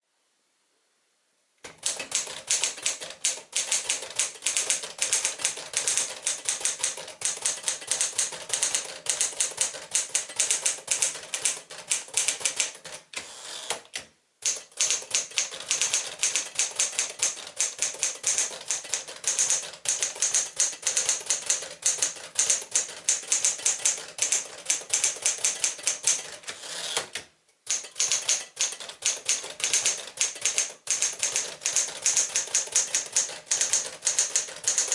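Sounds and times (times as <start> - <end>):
typewriter key strikes: 1.7 - 12.9, 14.4 - 26.4, 27.7 - 34.9.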